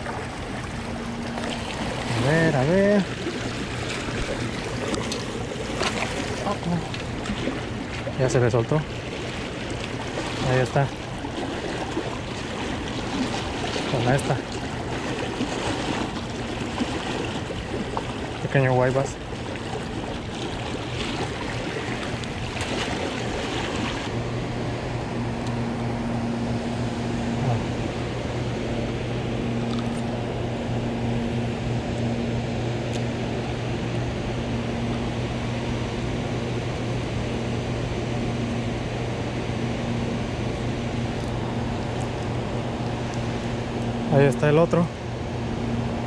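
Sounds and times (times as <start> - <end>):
low mechanical hum: 0.0 - 46.0
water noise: 0.0 - 46.0.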